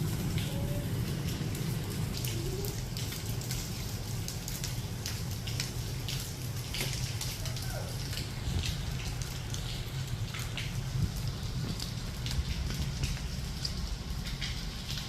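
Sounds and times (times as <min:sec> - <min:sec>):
light rain falling: 0:00.0 - 0:15.0
raindrop hits: 0:00.0 - 0:15.0.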